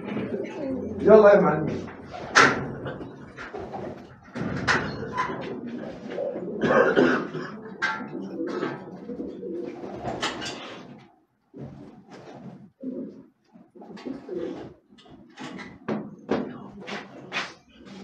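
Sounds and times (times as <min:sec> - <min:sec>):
pigeons cooing: 0:00.0 - 0:15.9.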